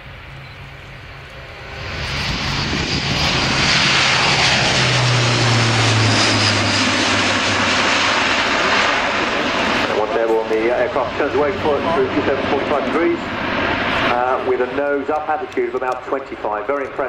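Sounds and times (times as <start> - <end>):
low propeller hum: 0.0 - 17.0
turboprop aircraft engines roaring: 0.0 - 17.0.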